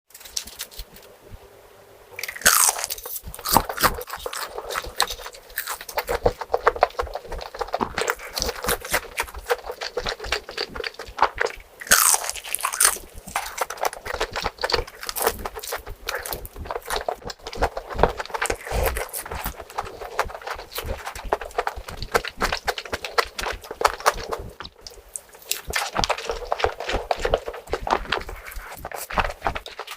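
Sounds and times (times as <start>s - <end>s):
person chewing crunchy food: 2.2s - 29.9s.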